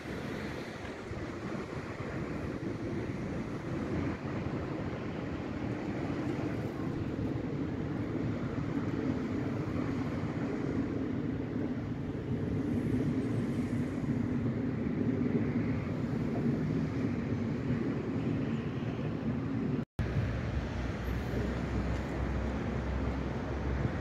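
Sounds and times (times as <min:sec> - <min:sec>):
road traffic rumbling: 0:00.0 - 0:24.0.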